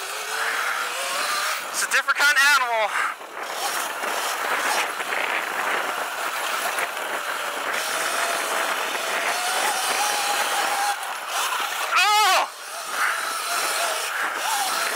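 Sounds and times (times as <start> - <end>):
electric motor whine: 0.0 - 1.9, 3.0 - 14.9
rushing wind noise: 0.0 - 14.9.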